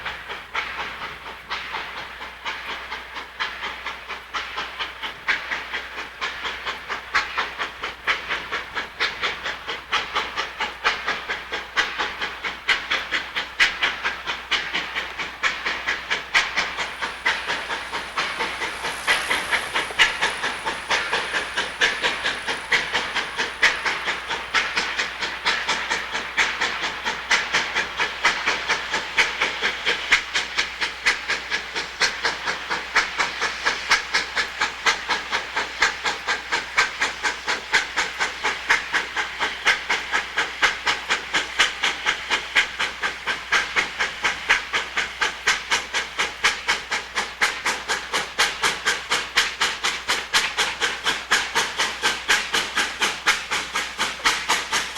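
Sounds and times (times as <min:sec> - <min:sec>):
steam locomotive chuffing: 0:00.0 - 0:54.9.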